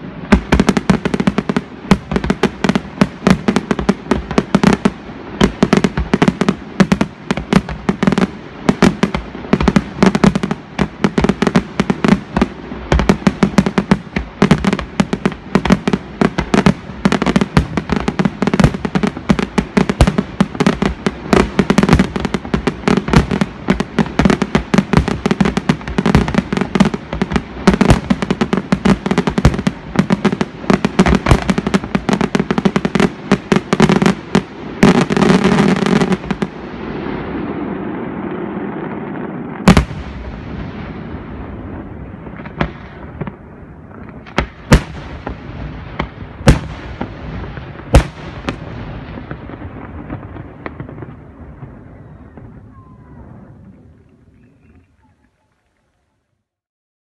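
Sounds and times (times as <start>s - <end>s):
fireworks barrage of loud bangs: 0.0s - 53.6s.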